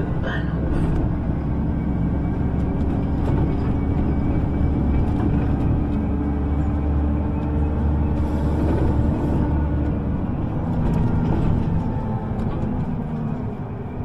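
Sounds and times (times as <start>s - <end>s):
bus engine rumble from inside: 0.0s - 14.0s.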